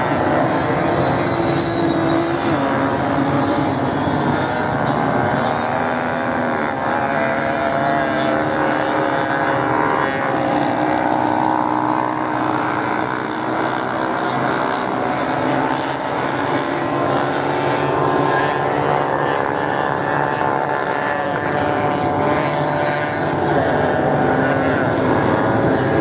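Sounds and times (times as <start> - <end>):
off-road motorcycle engines revving: 0.0 - 26.0.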